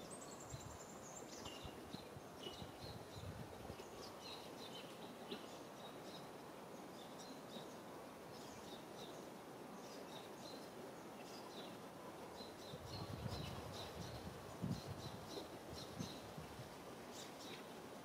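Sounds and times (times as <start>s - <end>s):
small birds chirping: 0.0s - 16.4s, 17.1s - 17.7s
steady background hiss: 0.0s - 18.0s.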